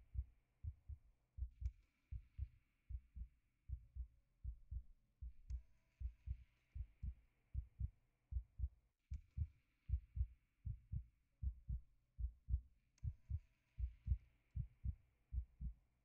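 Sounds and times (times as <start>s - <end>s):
heartbeat thumps: 0.1s - 8.8s, 9.4s - 15.7s.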